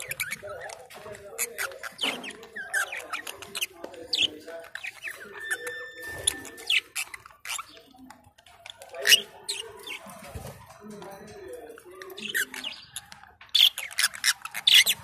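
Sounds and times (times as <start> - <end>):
birds chirping and chattering: 0.0 - 15.0.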